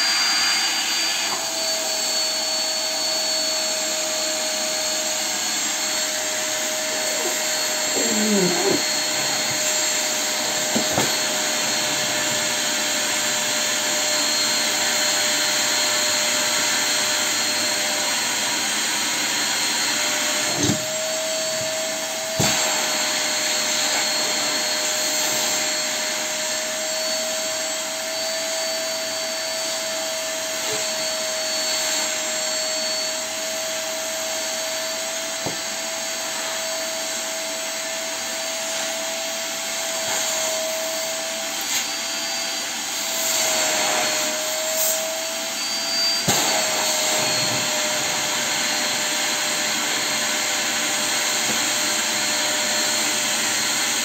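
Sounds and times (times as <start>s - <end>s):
vacuum cleaner whining: 0.0s - 54.0s.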